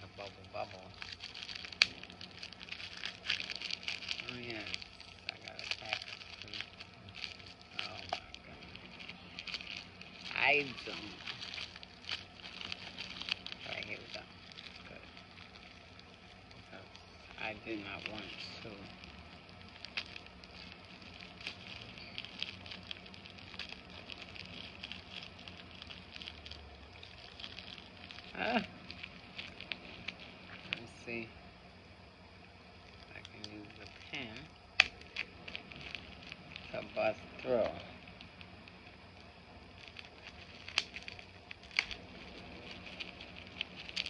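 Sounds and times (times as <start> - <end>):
package wrapping crinkling: 0.0 - 44.0.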